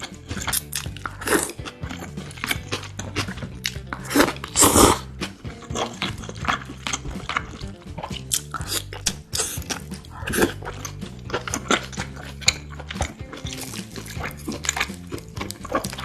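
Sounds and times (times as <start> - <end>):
background music: 0.0 - 16.0
crunching and chewing: 0.0 - 16.0.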